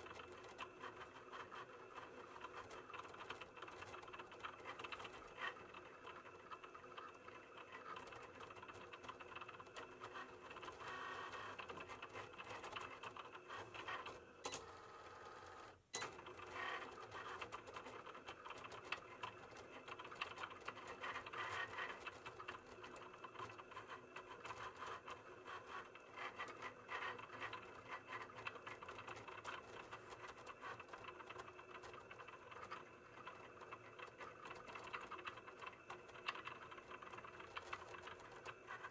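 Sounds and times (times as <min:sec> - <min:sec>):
cutting machine motors whirring: 0:00.0 - 0:38.9.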